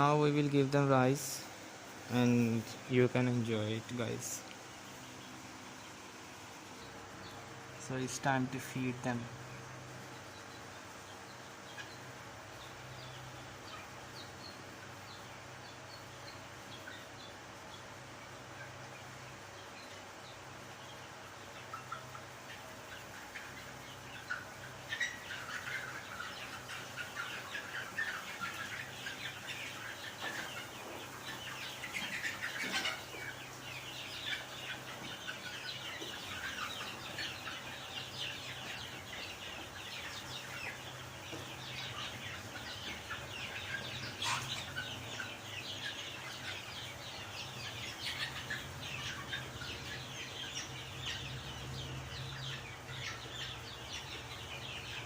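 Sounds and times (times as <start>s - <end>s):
chicks cheeping and clucking: 0.0s - 55.0s.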